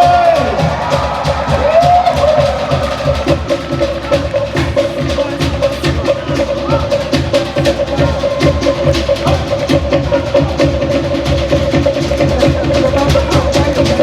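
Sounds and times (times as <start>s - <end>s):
deep drum beat: 0.0s - 14.0s.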